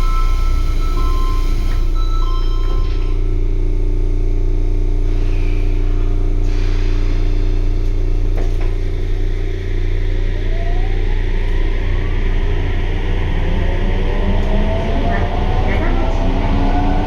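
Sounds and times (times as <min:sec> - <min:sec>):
electrical hum: 0:00.0 - 0:17.0
low train rumble: 0:00.0 - 0:17.0.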